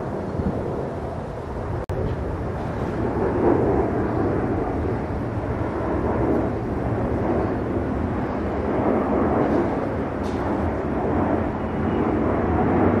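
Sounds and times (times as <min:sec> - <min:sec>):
distant engine roar: 0:00.0 - 0:13.0.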